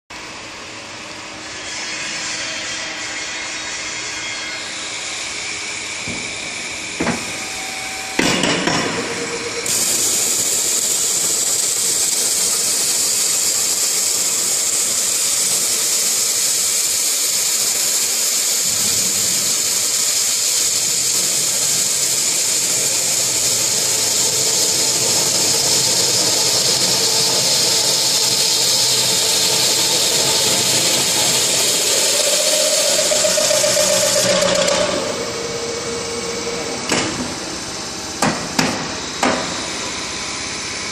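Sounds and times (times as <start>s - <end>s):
drilling machine through steel: 2.7s - 40.9s
coolant spray hiss: 5.9s - 40.6s.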